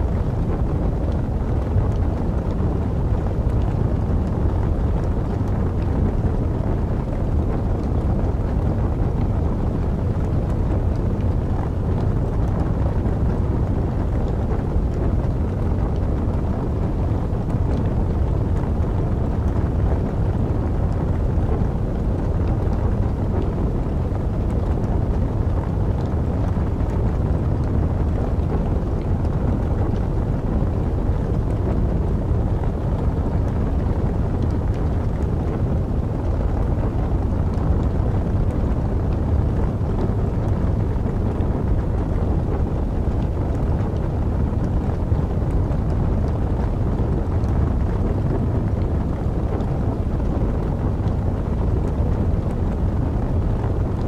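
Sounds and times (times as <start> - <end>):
fire crackles: 0.0 - 54.0
fire low rumble: 0.0 - 54.0.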